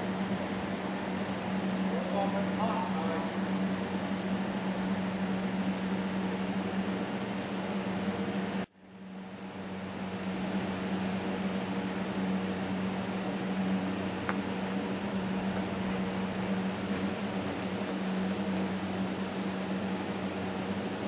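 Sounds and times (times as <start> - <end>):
ventilation fans humming: 0.0 - 21.0.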